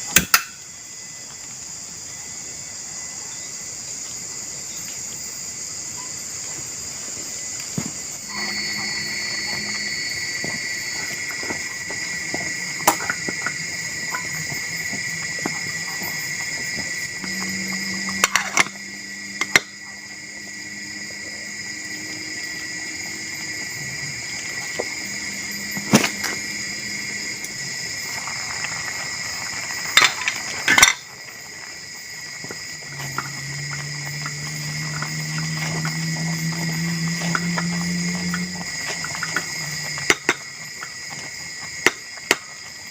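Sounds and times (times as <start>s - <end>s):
insects chorus: 0.0s - 42.9s.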